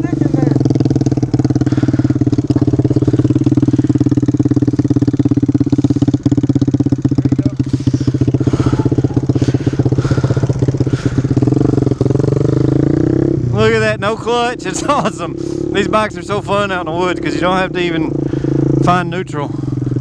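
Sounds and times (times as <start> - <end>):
dirt bike engine idling: 0.0 - 20.0.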